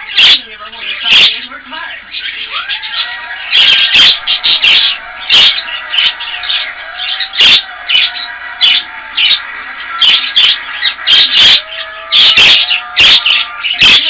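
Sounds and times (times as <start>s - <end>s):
budgerigar chattering and chirping: 0.0s - 1.5s, 2.1s - 14.0s.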